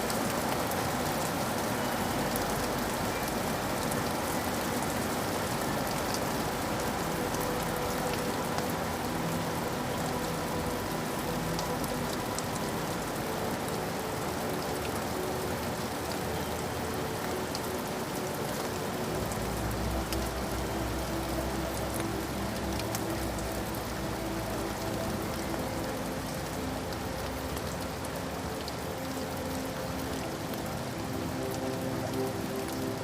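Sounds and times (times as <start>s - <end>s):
raindrops ticking: 0.0s - 33.0s
steady rain falling: 0.0s - 33.0s.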